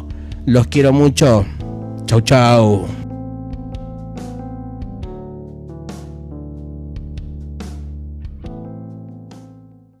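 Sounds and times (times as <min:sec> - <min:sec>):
instrumental outro music: 0:00.0 - 0:10.0.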